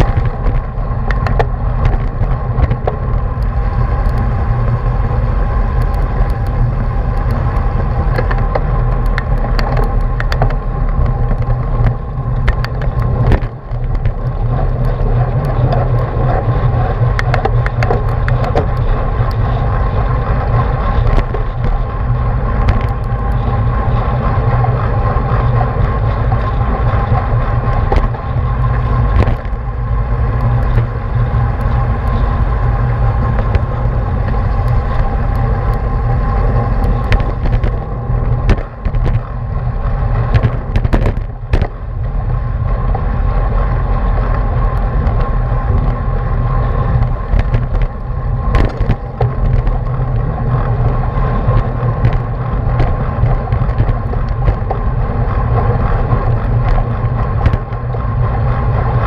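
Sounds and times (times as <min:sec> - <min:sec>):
bicycle clicks and rattles: 0:00.0 - 0:59.0
wind rushing over microphone: 0:00.0 - 0:59.0.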